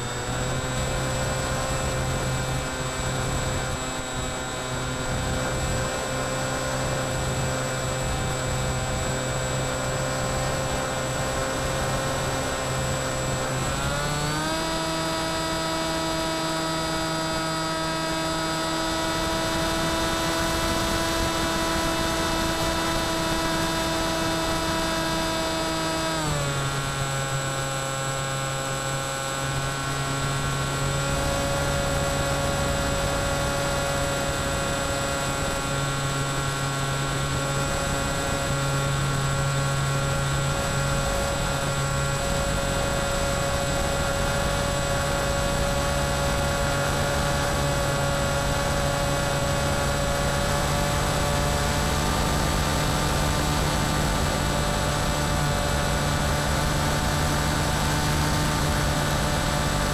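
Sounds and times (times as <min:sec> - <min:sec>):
electric motor propeller whine: 0:00.0 - 0:59.9.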